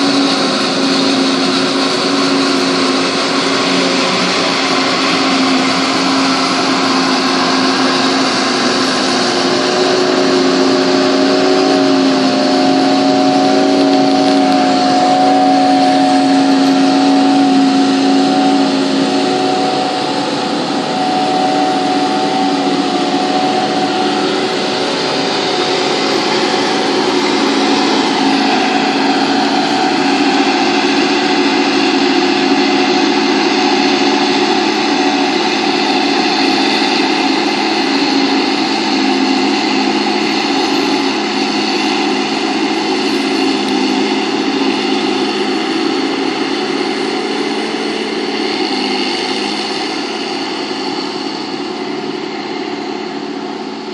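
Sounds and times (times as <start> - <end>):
tractor engines: 0.0 - 53.9.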